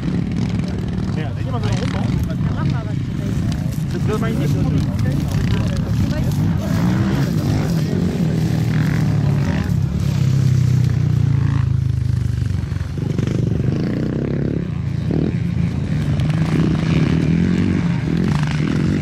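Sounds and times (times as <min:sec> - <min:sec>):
small racing engine at high revs: 0:00.0 - 0:19.0.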